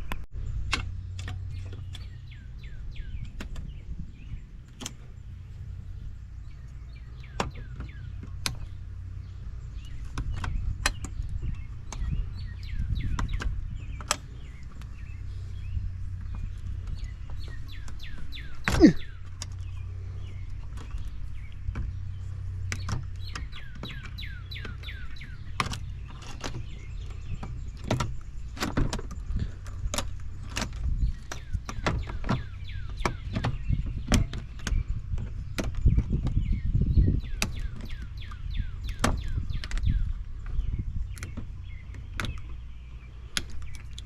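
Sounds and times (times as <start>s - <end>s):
bird chirping: 0.0s - 44.0s.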